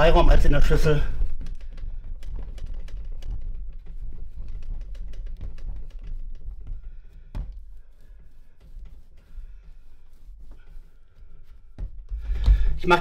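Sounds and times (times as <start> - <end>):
dough kneaded on wooden table: 0.0 - 13.0.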